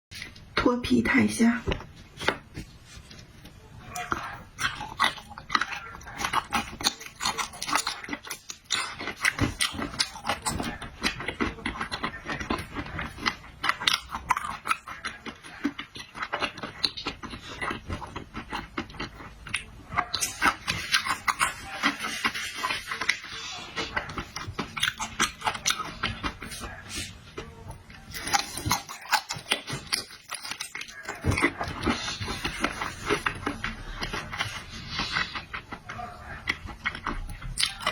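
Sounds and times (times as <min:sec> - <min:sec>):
mouth smacking and chewing: 0:01.7 - 0:37.9.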